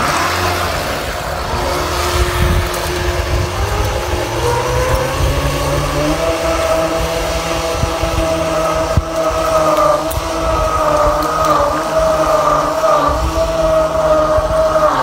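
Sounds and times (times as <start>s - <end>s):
low rumble: 0.0s - 14.8s
small boat motor whining: 0.0s - 15.0s.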